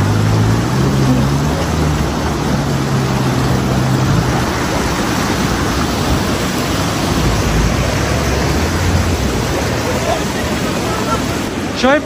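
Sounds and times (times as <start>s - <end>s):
car engine hum: 0.0s - 11.8s
fast river rushing: 0.0s - 12.0s
water surging against vehicle: 0.0s - 12.0s.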